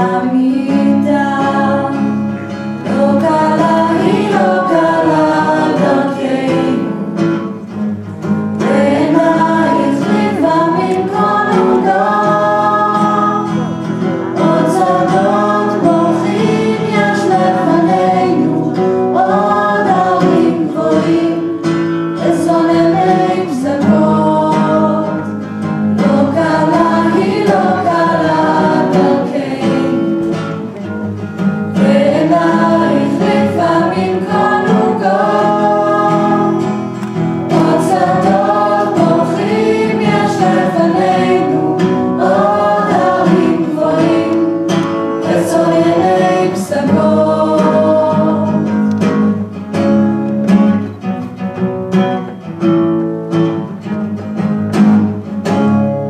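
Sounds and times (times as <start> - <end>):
youth choir singing: 0.0 - 7.4, 8.6 - 30.8, 31.7 - 49.5
guitar accompaniment: 0.0 - 56.0.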